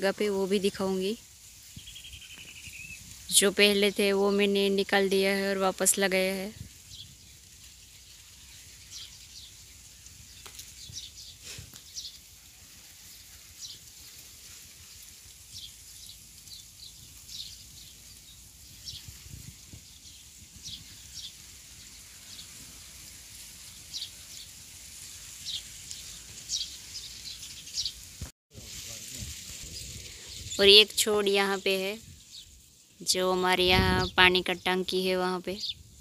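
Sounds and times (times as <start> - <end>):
birds chirping: 0.1 - 22.8, 23.6 - 28.1, 29.6 - 35.9.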